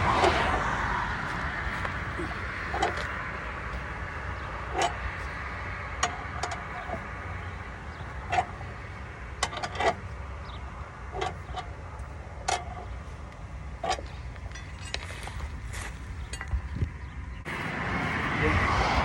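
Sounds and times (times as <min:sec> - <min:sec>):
tire iron clanking on lug nuts: 0:00.0 - 0:18.3
steady background hum: 0:00.0 - 0:19.0.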